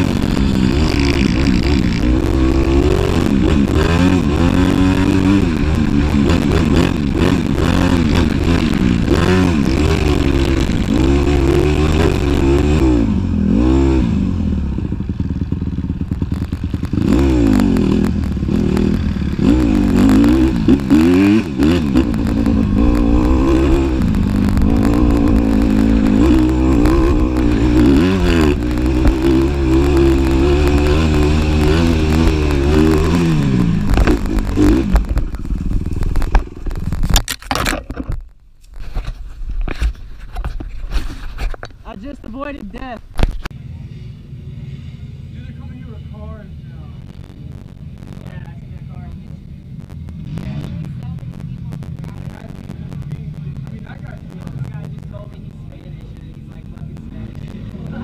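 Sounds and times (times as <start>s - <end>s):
dirt bike engine revving: 0.0s - 37.2s, 41.8s - 58.0s.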